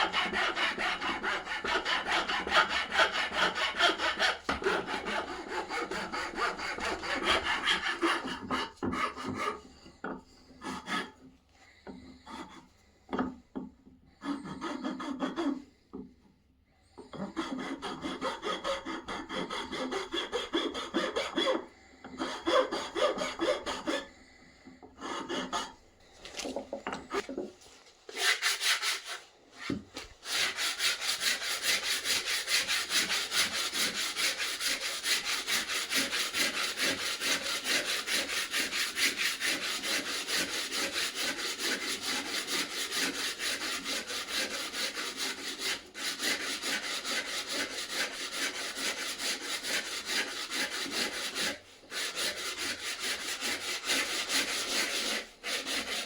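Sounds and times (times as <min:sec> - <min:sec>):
hand tool scraping wood: 0:00.0 - 0:16.1, 0:17.0 - 0:56.0.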